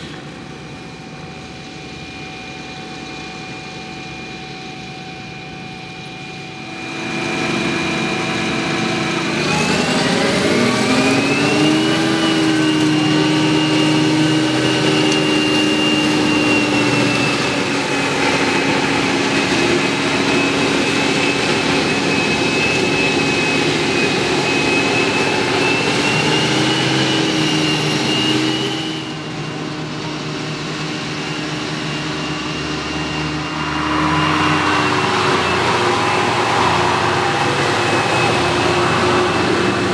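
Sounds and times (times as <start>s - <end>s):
harvester engine running hard: 0.0s - 39.9s
high whine: 0.0s - 39.9s.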